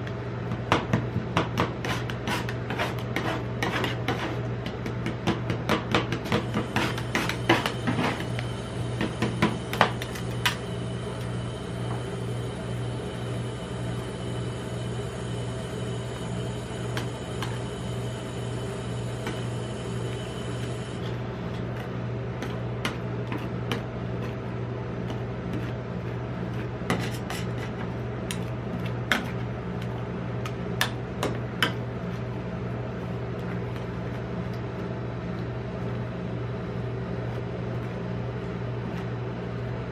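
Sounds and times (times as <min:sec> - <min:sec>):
refrigeration unit hum: 0:00.0 - 0:39.9.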